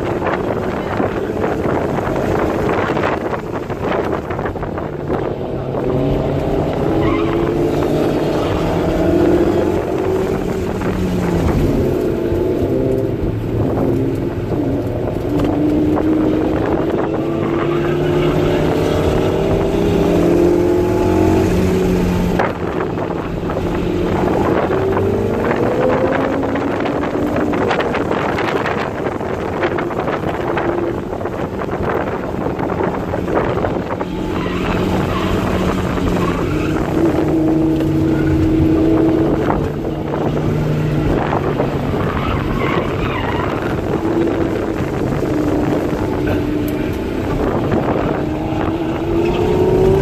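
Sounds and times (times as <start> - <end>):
car engine revving under load: 0.0 - 50.0.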